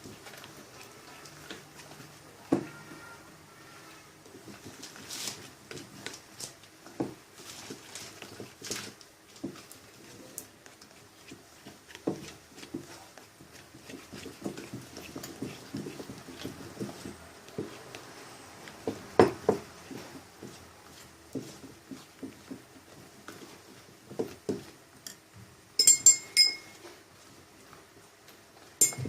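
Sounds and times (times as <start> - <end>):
spoon stirring slime: 0.0 - 29.0.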